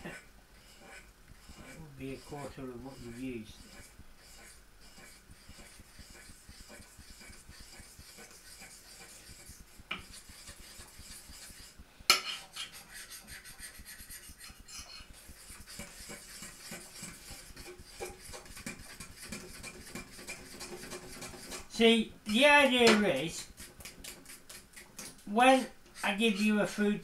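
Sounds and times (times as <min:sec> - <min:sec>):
fork whisking batter in bowl: 0:00.0 - 0:27.0.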